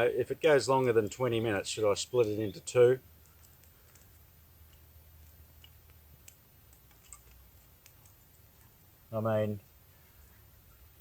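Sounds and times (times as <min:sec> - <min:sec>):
campfire crackling: 0:00.0 - 0:11.0
low steady hum: 0:00.0 - 0:11.0.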